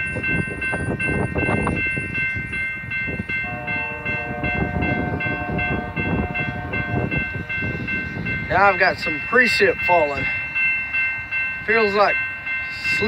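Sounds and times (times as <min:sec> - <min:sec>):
bell ringing rapidly: 0:00.0 - 0:13.0
freight train rumbling: 0:00.0 - 0:13.0
wind buffeting microphone: 0:00.0 - 0:13.0.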